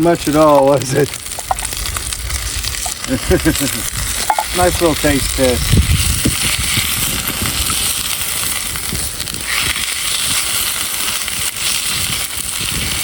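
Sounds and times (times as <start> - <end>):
greens sizzling in hot oil: 0.0 - 13.0.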